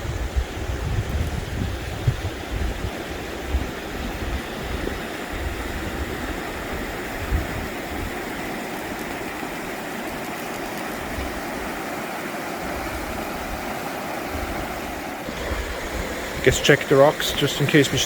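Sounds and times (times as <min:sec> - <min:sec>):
wind gusts on microphone: 0:00.0 - 0:18.0
river rushing over rocks: 0:02.3 - 0:18.0.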